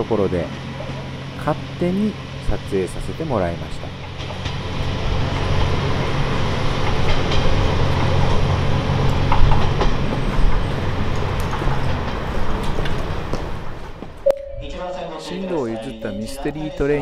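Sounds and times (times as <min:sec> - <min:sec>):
wheels clicking on rails: 0:00.0 - 0:14.2
diesel railcar engine hum: 0:00.0 - 0:17.0.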